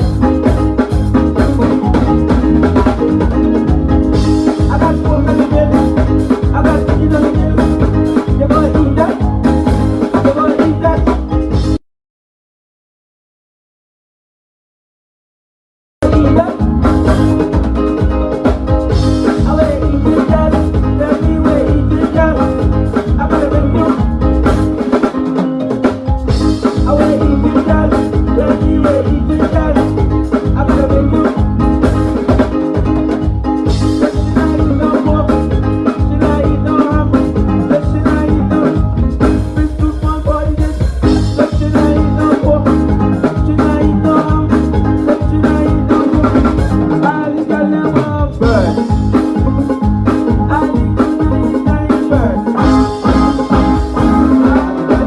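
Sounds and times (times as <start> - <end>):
drum kit beat: 0.0 - 11.8, 16.0 - 55.0
loud music: 0.0 - 11.8, 16.0 - 55.0.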